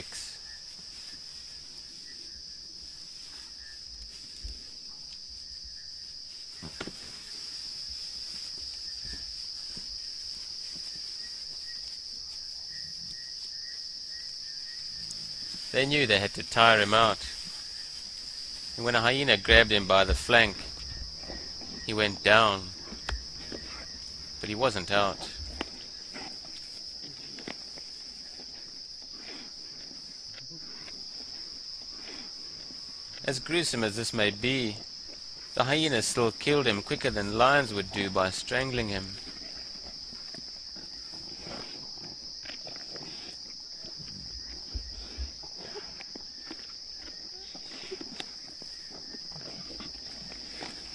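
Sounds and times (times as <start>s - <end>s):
night insects chirping: 0.0s - 50.9s.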